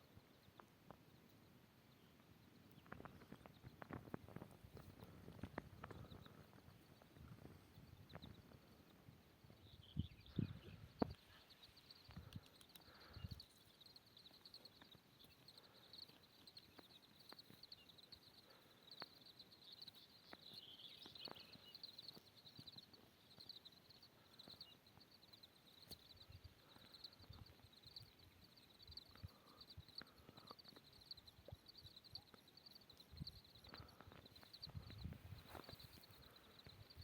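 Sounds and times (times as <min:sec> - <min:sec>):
animals chirping rhythmically: 0:00.0 - 0:37.0.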